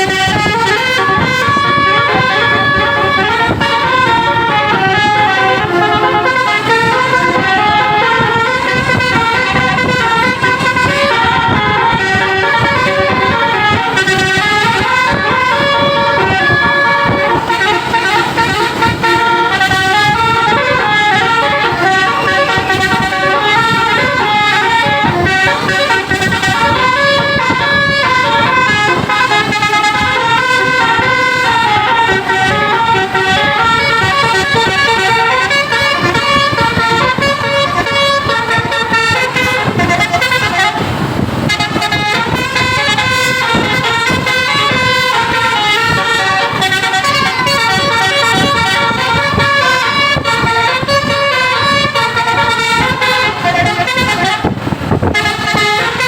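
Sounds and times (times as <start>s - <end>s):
bus engine running: 0.0s - 56.0s
multi-trumpet air horn melody: 0.0s - 56.0s.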